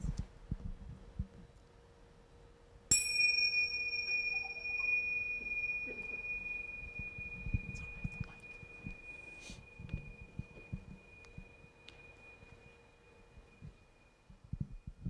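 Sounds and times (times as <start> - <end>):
tingsha cymbals ringing: 2.9 - 15.0.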